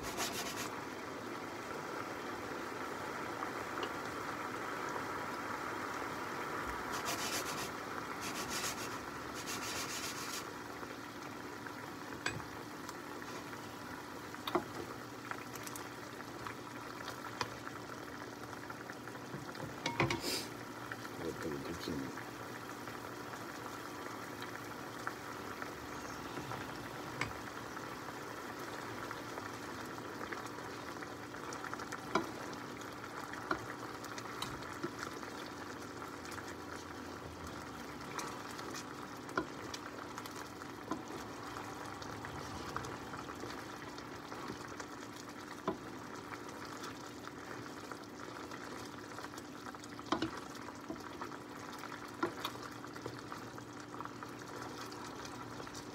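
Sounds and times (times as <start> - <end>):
sauce simmering and bubbling: 0.0 - 55.9.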